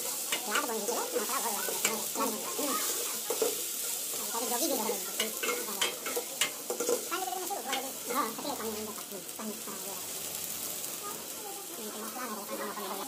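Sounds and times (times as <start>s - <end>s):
food sizzling in pot: 0.0s - 13.0s.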